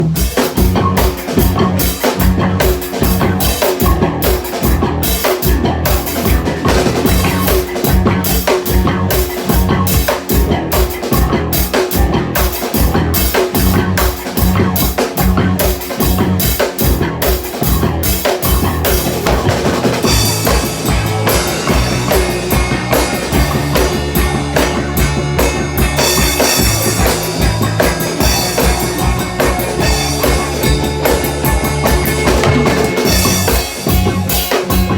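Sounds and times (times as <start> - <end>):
drum kit beat: 0.0 - 34.9
rock band playing: 0.0 - 34.9.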